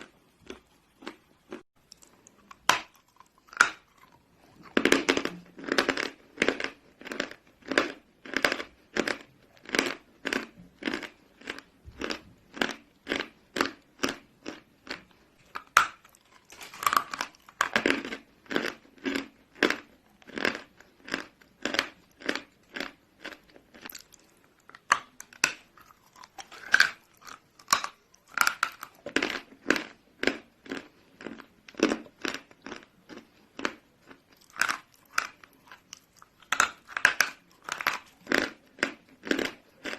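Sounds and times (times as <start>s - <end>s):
chewing chalk crunches: 0.0s - 39.9s.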